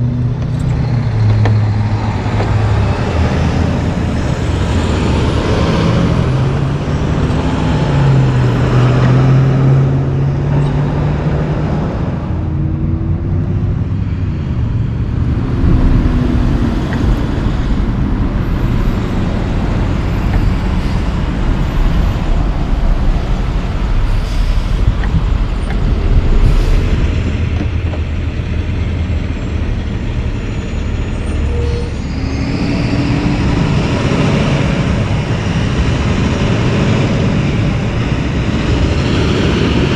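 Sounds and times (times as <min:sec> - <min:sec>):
diesel engine rumble: 0:00.0 - 0:39.9
trucks passing: 0:00.0 - 0:39.9.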